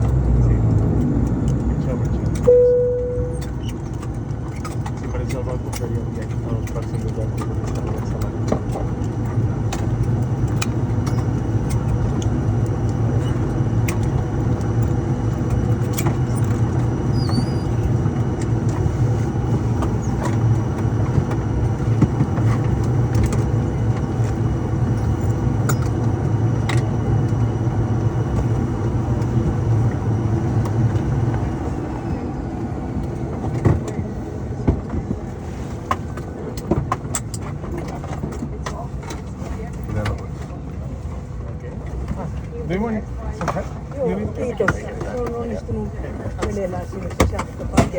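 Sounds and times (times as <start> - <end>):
propeller engine droning: 0.0 - 47.9.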